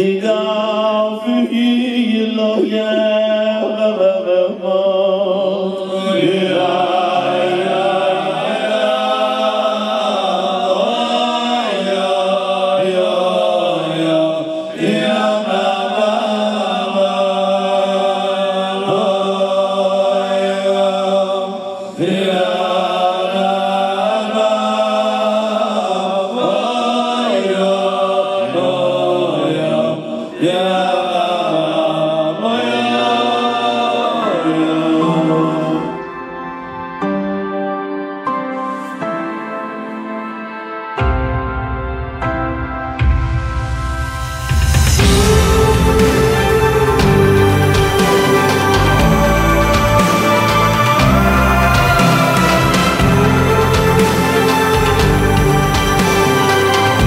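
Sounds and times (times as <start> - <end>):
men singing a chant: 0.0 - 36.0, 45.0 - 57.0.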